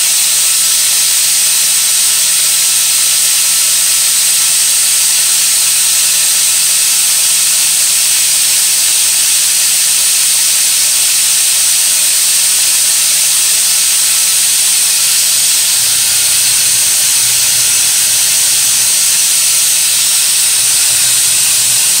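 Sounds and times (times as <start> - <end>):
compressed air hissing: 0.0 - 22.0.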